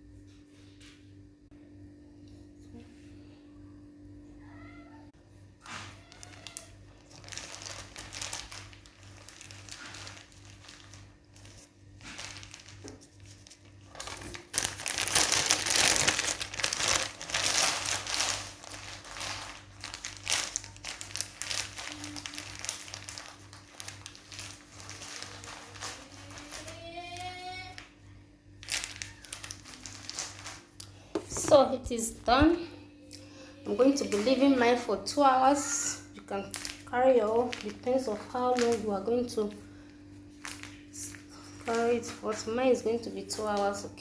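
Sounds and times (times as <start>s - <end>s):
hair rustling and crinkling: 5.9s - 27.9s, 28.6s - 32.6s, 33.7s - 44.0s.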